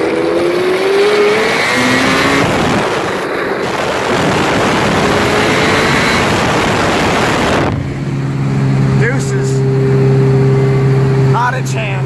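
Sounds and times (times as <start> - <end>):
car engine from inside cabin: 0.0 - 12.0
road noise: 0.0 - 12.0.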